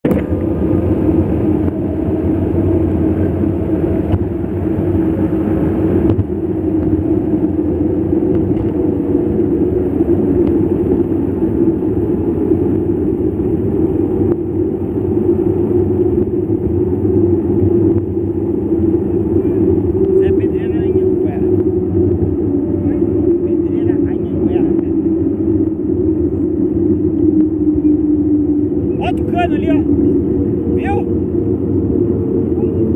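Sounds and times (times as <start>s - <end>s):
low hum: 0.0s - 32.9s
wind and road noise: 0.0s - 32.9s.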